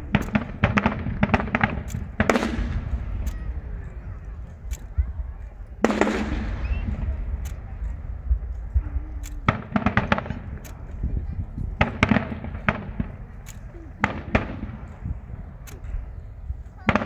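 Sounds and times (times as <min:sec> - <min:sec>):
fireworks bangs and crackling: 0:00.0 - 0:17.0
steady low rumble: 0:00.0 - 0:17.0.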